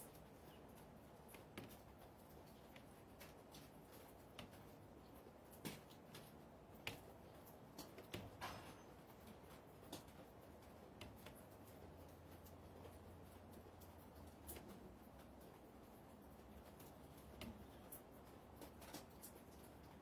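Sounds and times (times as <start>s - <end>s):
faint irregular clicks: 0.0s - 8.4s, 9.1s - 20.0s.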